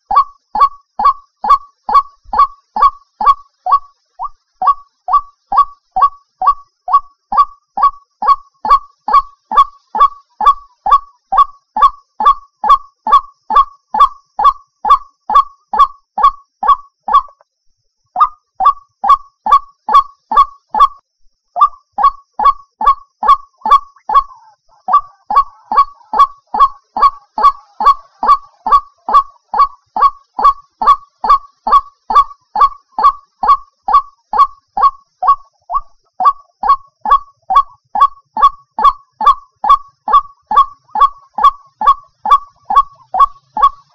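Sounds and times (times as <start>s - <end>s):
waterhen calling: 0.0s - 17.4s, 18.2s - 20.9s, 21.6s - 43.9s.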